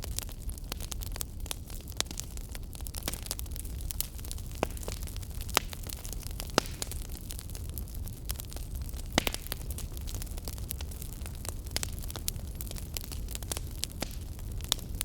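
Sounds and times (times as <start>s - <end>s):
fire crackling and popping: 0.0s - 15.0s
rumble and hiss of flames: 0.0s - 15.0s.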